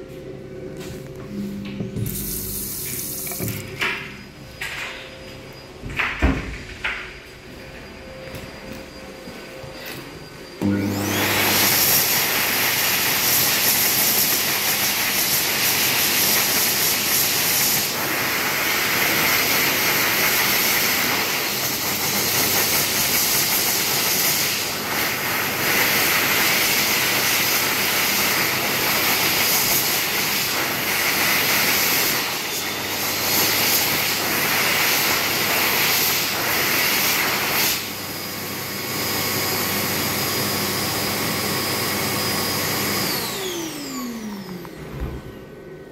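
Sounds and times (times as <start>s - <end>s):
hand dryer air rushing: 0.0s - 7.8s, 8.5s - 45.9s.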